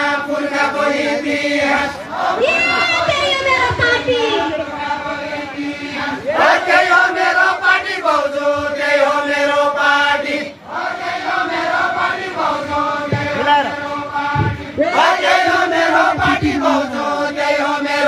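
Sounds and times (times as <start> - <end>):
folk song sung in chorus: 0.0 - 3.0, 4.3 - 18.0.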